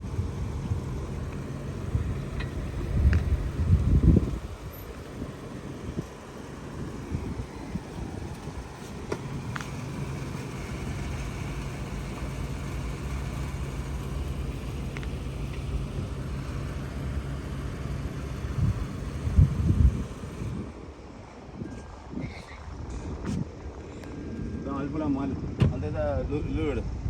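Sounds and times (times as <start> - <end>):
road and engine rumble: 0.0 - 27.0.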